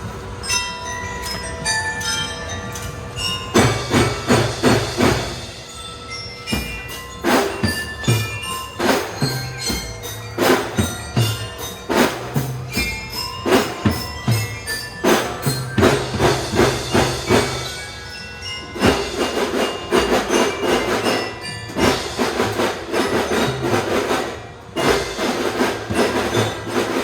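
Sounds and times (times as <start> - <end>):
tuned bells melody: 0.0 - 27.0
marching drums: 2.5 - 27.0.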